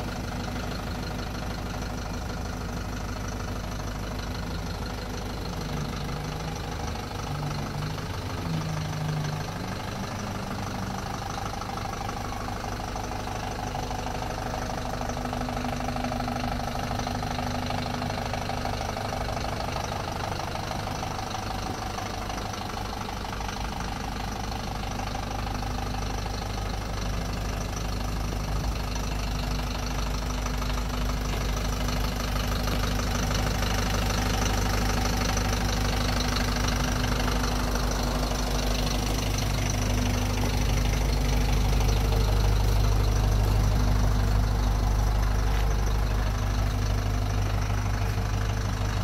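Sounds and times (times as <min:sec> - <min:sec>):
minibus engine idling: 0:00.0 - 0:49.0.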